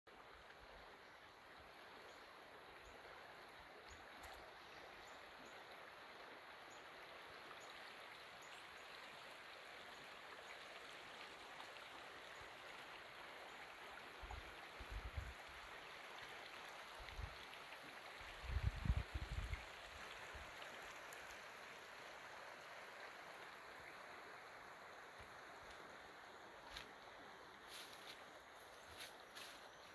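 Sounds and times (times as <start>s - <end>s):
creek water flowing: 0.1s - 29.9s.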